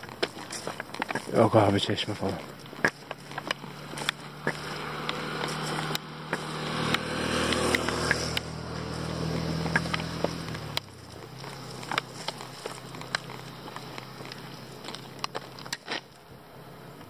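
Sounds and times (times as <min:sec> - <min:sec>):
footsteps on road edge: 0:00.0 - 0:17.0
motorcycle engine passing: 0:00.0 - 0:17.0.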